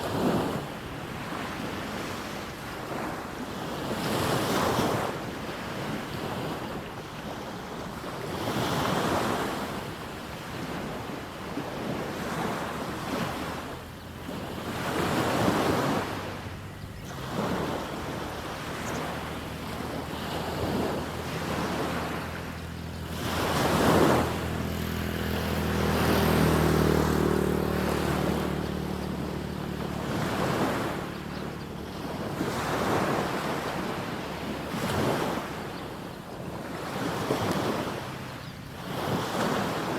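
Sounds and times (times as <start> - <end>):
waves washing up a beach: 0.0 - 39.9.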